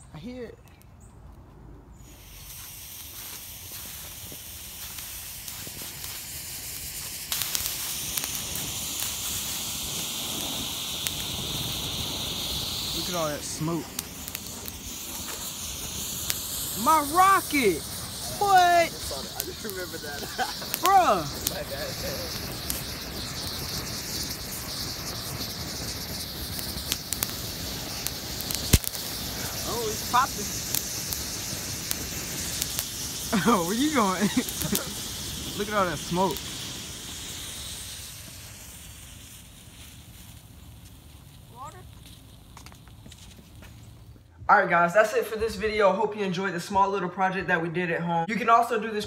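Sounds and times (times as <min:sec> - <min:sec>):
crackles: 0:00.0 - 0:46.8
rocket motor hissing: 0:01.9 - 0:44.2.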